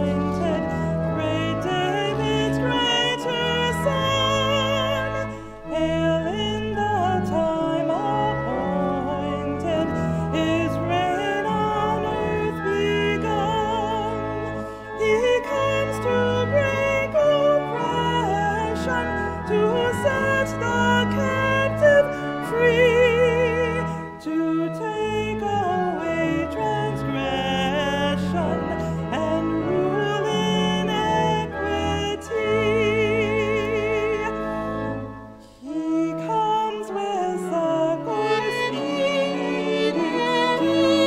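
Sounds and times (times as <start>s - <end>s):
woman singing a hymn: 0.0s - 35.0s, 35.6s - 41.0s
organ low sustained notes: 0.0s - 41.0s
violin: 0.0s - 41.0s.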